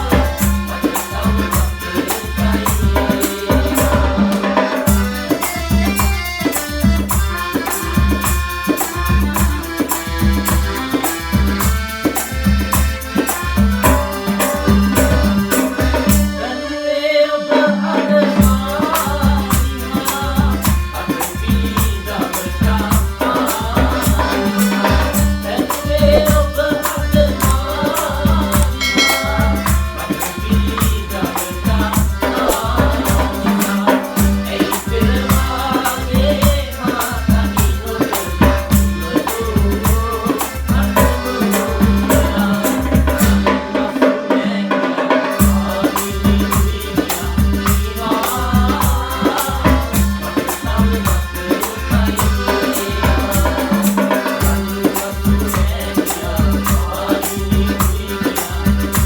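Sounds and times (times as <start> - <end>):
calypso band music: 0.0 - 59.0.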